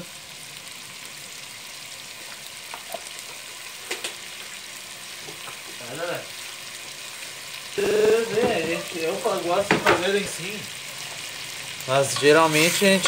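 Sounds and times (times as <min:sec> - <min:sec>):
meat sizzling in hot oil: 0:00.0 - 0:13.0.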